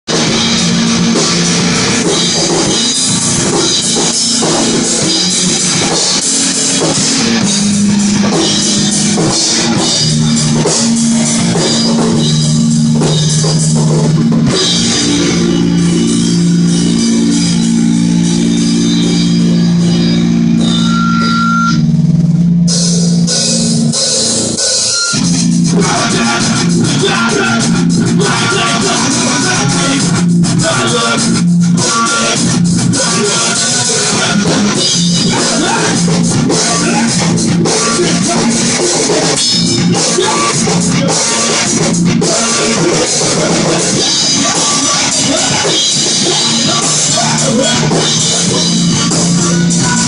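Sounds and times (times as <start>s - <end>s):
rock music with drums and guitar: 0.1s - 50.0s.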